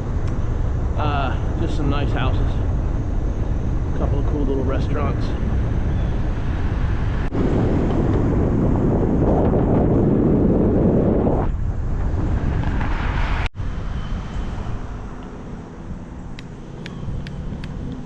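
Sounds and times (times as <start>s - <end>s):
street traffic: 0.0s - 8.4s, 11.6s - 18.0s
wind rumbling on microphone: 0.0s - 18.0s.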